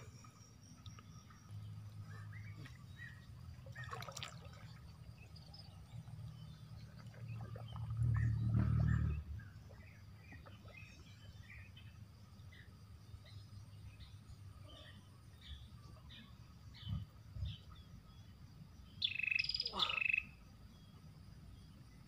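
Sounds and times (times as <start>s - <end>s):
water sloshing and trickling: 0.0s - 17.8s
faint bird chirps: 0.0s - 22.0s.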